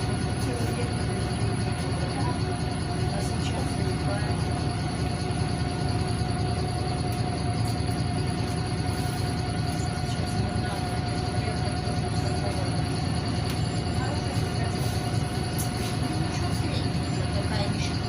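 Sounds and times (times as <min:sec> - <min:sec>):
bus engine and road rumble: 0:00.0 - 0:18.0
steady whine: 0:00.0 - 0:18.0.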